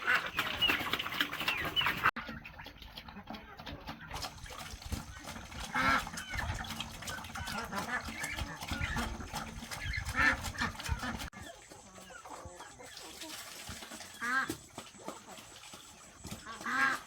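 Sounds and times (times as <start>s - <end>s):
poultry calling: 0.0s - 13.3s, 14.1s - 17.0s
bird sounds: 0.0s - 17.0s.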